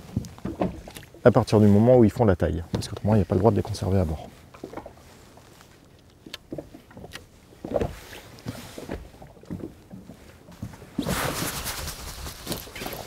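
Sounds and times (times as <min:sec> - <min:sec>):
rush of wind and water: 0:00.0 - 0:13.0
water slapping against hull: 0:00.0 - 0:13.0.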